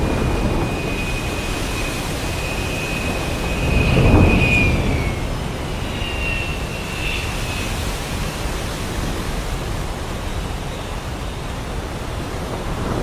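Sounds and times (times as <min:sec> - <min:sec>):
faint high whistling tones: 0:00.0 - 0:12.3
heavy rain and wind: 0:00.0 - 0:13.0
thunder rumble: 0:00.0 - 0:13.0.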